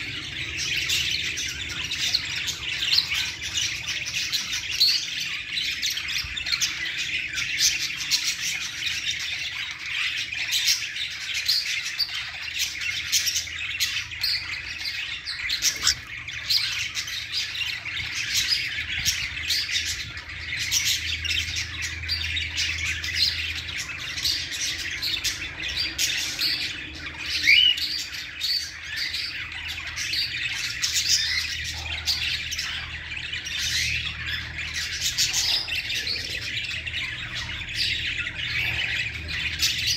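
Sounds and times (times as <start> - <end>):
cockatiels chirping and squawking: 0.0 - 39.9.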